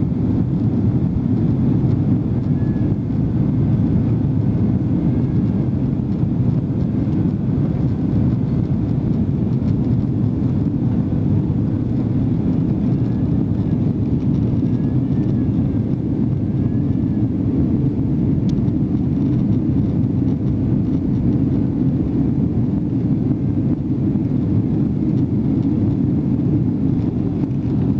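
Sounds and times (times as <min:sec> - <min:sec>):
airliner engine drone in cabin: 0:00.0 - 0:27.9.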